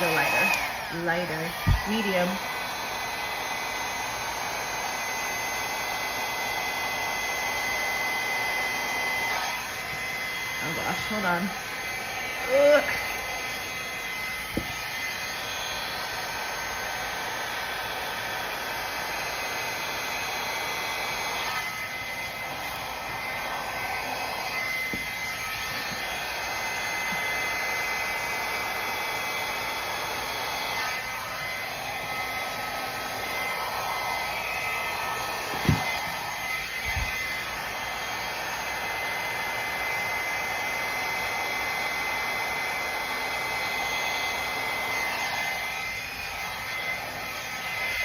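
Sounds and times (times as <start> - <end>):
hairdryer running: 0.0 - 48.0.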